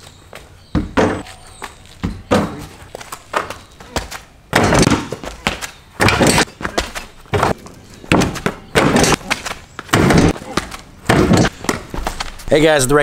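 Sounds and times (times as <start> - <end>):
basketball bouncing on concrete: 0.7 - 1.3, 2.0 - 12.4.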